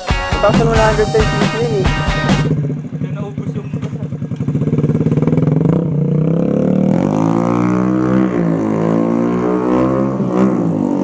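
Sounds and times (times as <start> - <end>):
motorcycle engine revving: 0.4 - 11.0.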